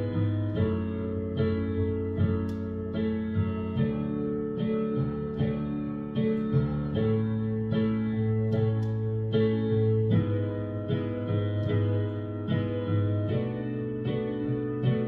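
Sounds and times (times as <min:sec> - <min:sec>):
digital piano chords: 0:00.0 - 0:15.0.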